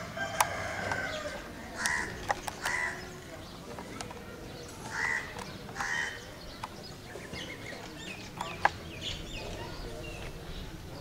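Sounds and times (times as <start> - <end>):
harsh bird calls: 0.0 - 11.0.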